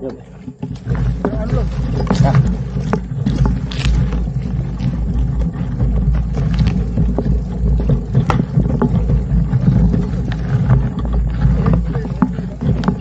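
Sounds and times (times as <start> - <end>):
bike clicks and rattles: 0.0 - 13.0
wind buffeting microphone: 0.0 - 13.0.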